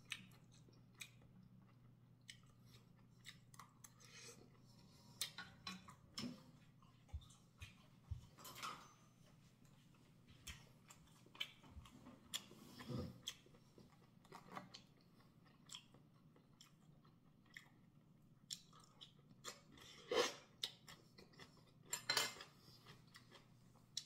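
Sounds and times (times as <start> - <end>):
faint chewing: 0.0 - 24.0.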